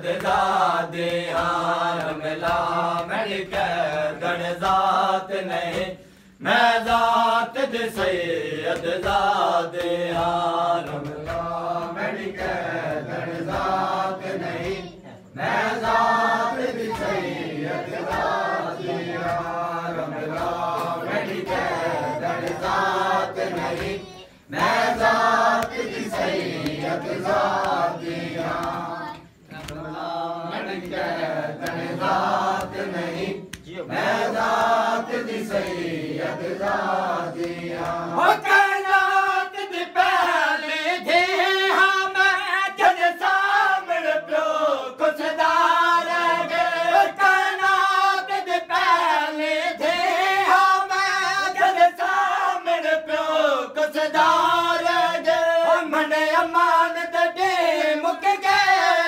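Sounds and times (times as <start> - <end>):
men chanting in unison: 0.0 - 59.0.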